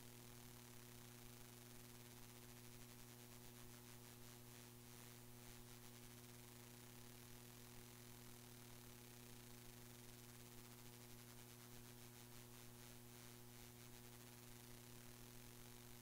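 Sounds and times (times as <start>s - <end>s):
faint electrical hum and hiss: 0.0s - 16.0s.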